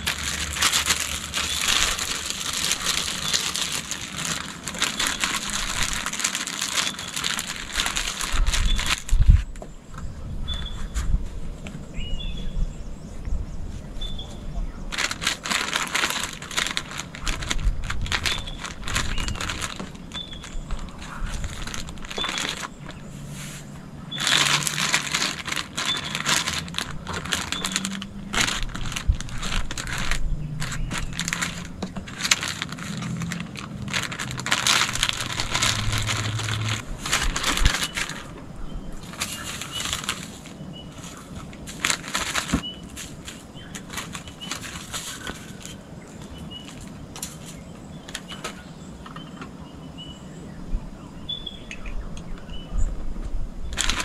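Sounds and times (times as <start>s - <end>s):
plastic bag crinkling: 0.0s - 9.6s, 14.9s - 49.4s, 53.7s - 54.0s.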